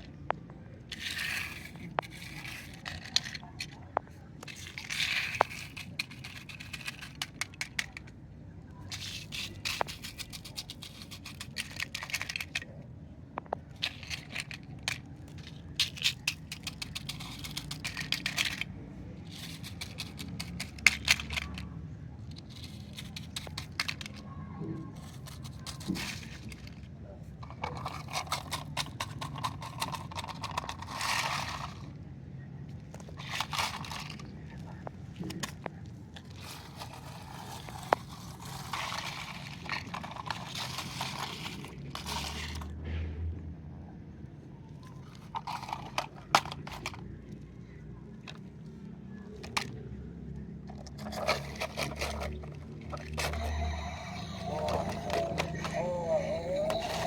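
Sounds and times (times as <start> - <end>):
toy car wheels crunching gravel: 0.0 - 32.0, 32.7 - 42.8, 44.7 - 50.0, 50.6 - 57.0.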